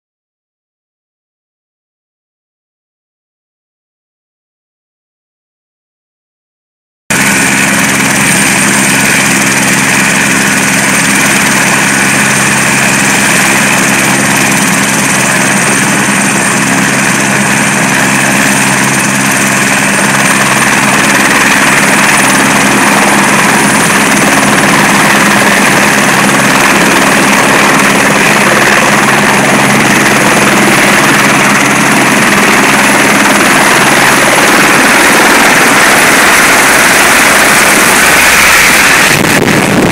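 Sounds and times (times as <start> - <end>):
helicopter engine and rotors: 7.1 - 39.9
high turbine whine: 7.1 - 39.9.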